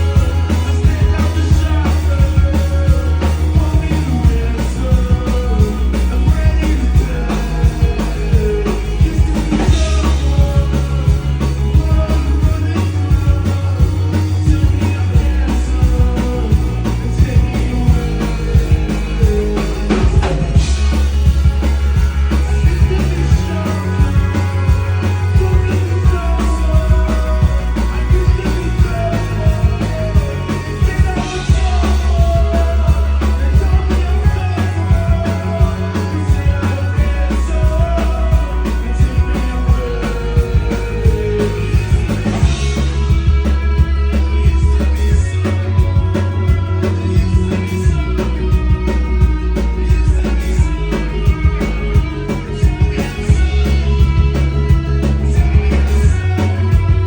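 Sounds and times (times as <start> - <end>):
bass notes: 0.0 - 57.0
drum kit beat: 0.0 - 57.0.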